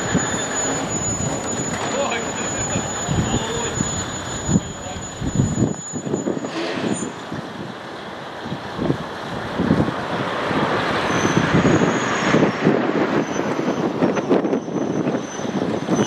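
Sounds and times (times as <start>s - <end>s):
diesel railcar engine running: 0.0s - 16.0s
wind buffeting microphone: 0.0s - 16.0s.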